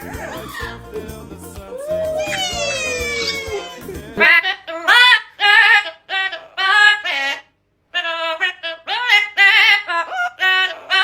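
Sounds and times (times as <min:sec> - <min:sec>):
high singing voice: 0:00.0 - 0:11.0.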